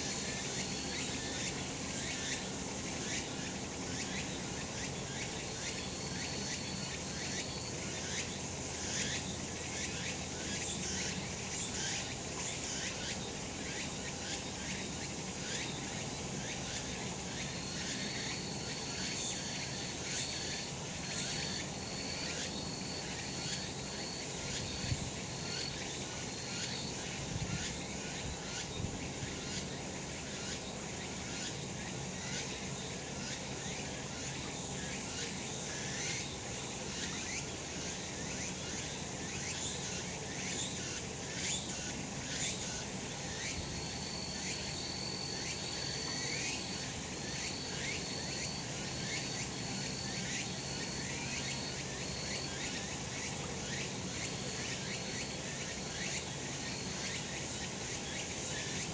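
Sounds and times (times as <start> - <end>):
cicadas chirping: 0.0 - 58.9.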